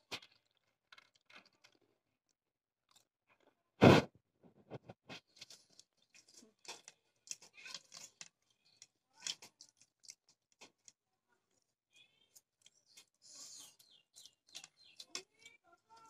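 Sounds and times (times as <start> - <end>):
crunching and chewing snacks: 0.0 - 2.0, 2.9 - 3.6, 5.1 - 16.0.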